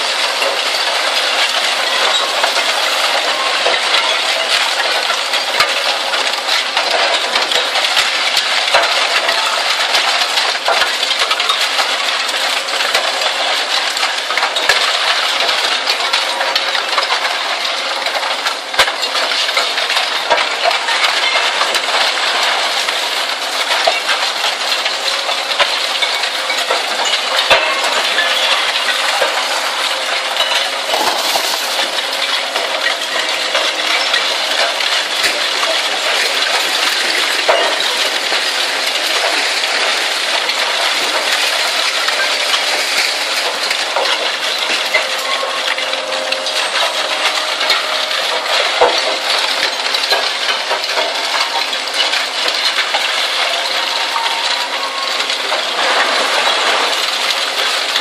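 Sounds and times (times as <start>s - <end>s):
shredder clattering metal: 0.0s - 58.0s.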